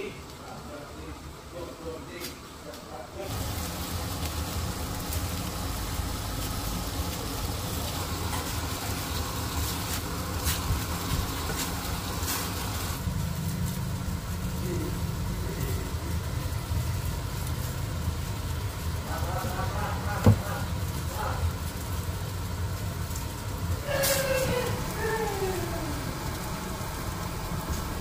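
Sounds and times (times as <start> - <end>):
gas hob and cooker hood hum: 0.0 - 28.0.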